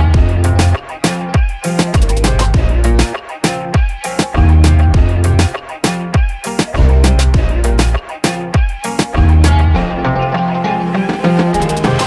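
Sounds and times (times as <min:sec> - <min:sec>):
drum hits: 0:00.0 - 0:09.7
afrobeat music with heavy bass: 0:00.0 - 0:12.0.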